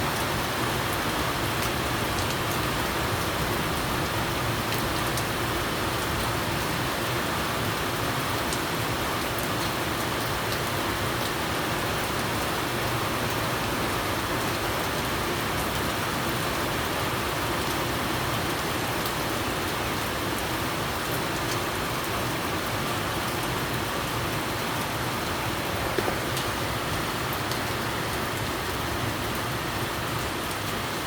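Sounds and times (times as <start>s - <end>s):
steady rain pattering: 0.0s - 31.0s.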